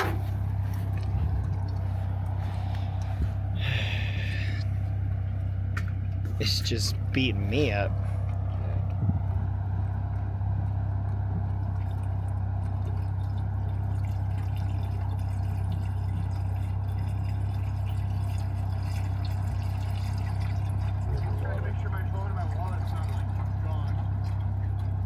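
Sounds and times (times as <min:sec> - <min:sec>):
car engine droning: 0:00.0 - 0:25.0.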